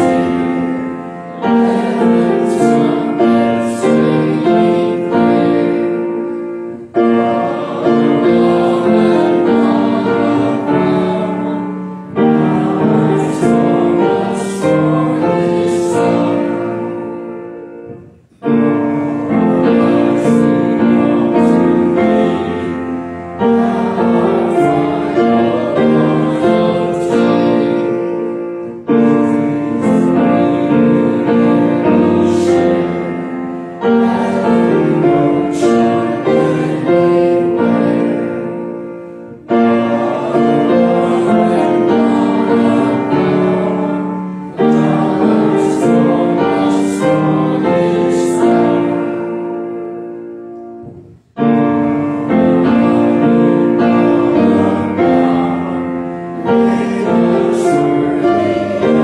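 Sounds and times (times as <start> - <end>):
grand piano playing: 0.0 - 59.0
voices singing a hymn: 0.0 - 59.0.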